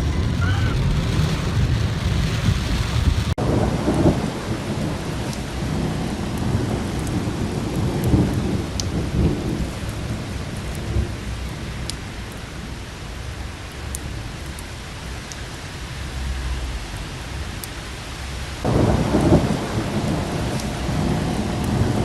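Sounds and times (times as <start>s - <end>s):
low rumble of thunder: 0.0s - 15.4s, 16.0s - 22.0s
heavy rain pouring: 0.0s - 22.0s.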